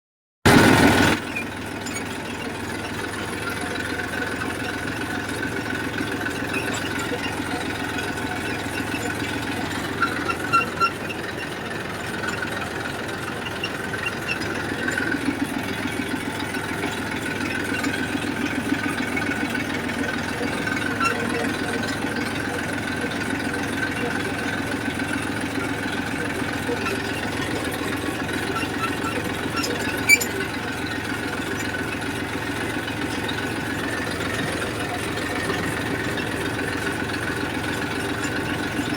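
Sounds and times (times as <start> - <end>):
tractor diesel engine running: 0.4 - 38.9.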